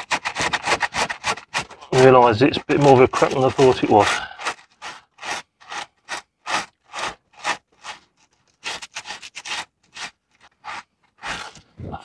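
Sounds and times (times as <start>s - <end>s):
sandpaper scratching plastic: 0.0s - 11.7s.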